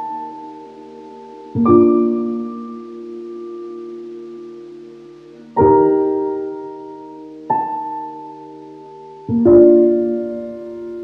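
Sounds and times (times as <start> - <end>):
slow keyboard chords: 0.0 - 11.0.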